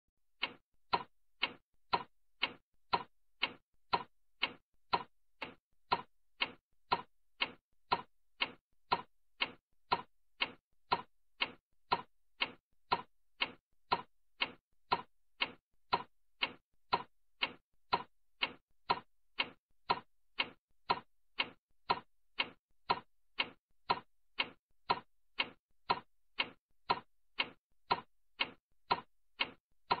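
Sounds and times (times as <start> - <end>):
clock ticking: 0.4 - 30.0.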